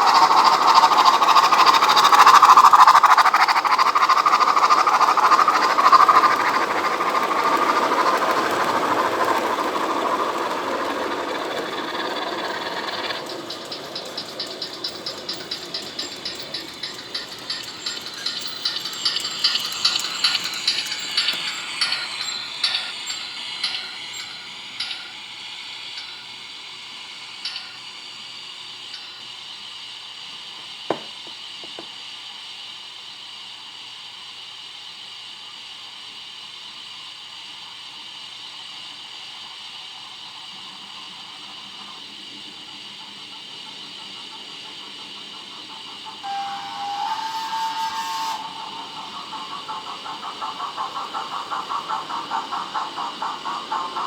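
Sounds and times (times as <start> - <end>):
model train wheels clicking: 0.0 - 32.5, 33.1 - 54.0
steady high hiss: 0.0 - 54.0.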